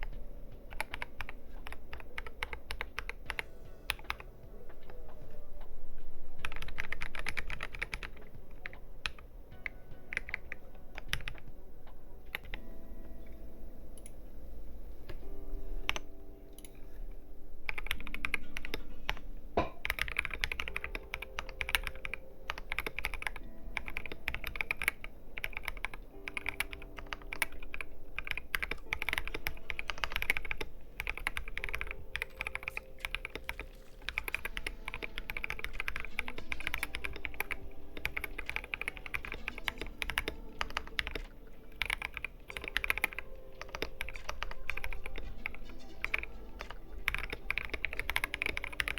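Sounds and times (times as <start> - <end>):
mechanical keyboard keystroke clicks: 0.0 - 4.2, 6.4 - 11.5, 17.7 - 48.9.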